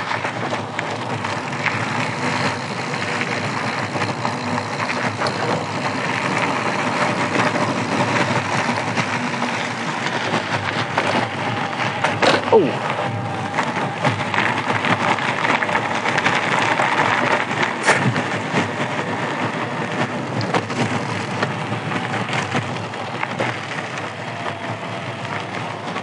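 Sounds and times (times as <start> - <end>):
bike rattling and knocking: 0.0 - 26.0
bike tyres crunching on gravel: 0.0 - 26.0.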